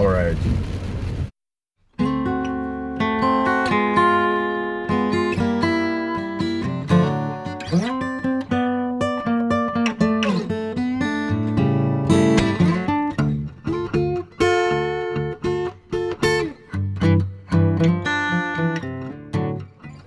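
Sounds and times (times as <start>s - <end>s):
acoustic guitar music: 1.9s - 20.0s.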